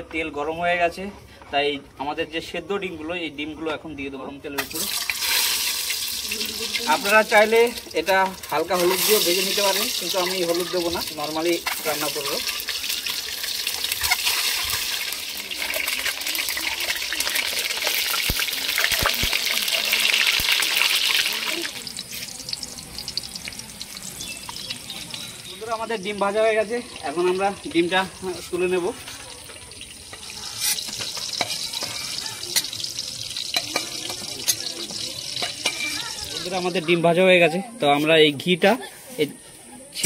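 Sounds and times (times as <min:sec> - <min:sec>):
eggs sizzling in hot oil: 0:04.5 - 0:38.8.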